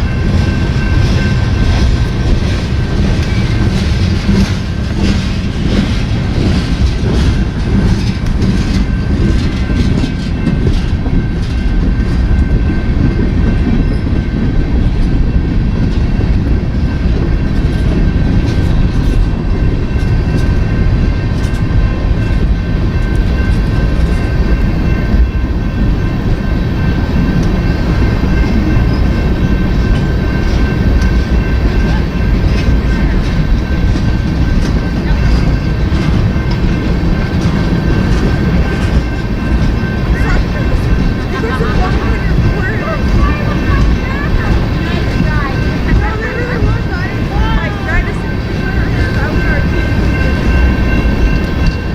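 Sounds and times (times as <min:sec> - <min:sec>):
freight train rumbling: 0:00.0 - 0:51.9.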